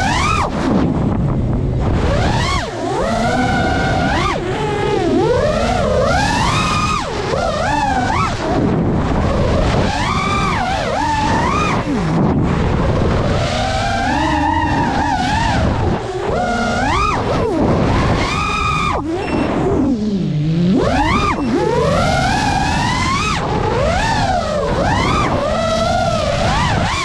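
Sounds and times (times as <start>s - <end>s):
constant rushing noise: 0.0s - 27.0s
quadcopter motors whining: 0.0s - 27.0s.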